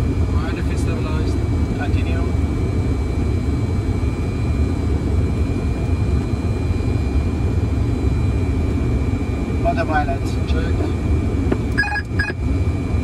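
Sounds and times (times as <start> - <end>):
jet engine and airflow rumble: 0.0 - 13.0.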